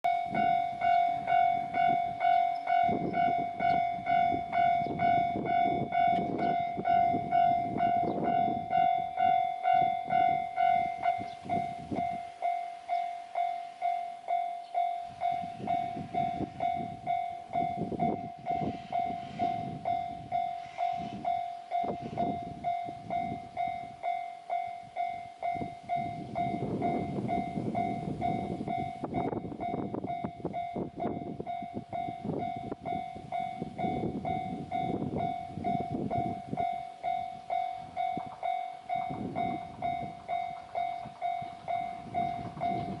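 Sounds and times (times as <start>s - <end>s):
level crossing warning bell ringing: 0.0s - 43.0s
low train rumble: 0.0s - 43.0s.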